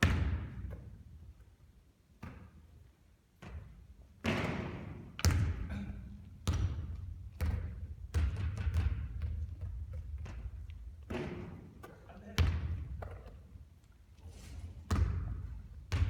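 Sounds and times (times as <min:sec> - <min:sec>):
basketball bouncing on court: 0:00.0 - 0:01.1, 0:02.2 - 0:02.8, 0:03.4 - 0:13.6, 0:14.8 - 0:16.0.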